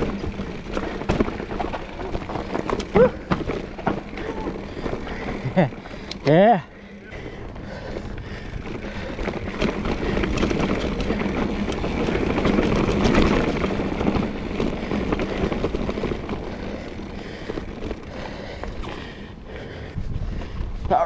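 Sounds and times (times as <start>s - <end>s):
bike knocks and rattles: 0.0s - 6.5s, 8.6s - 19.1s
bike tyres on rough dirt trail: 0.0s - 21.0s.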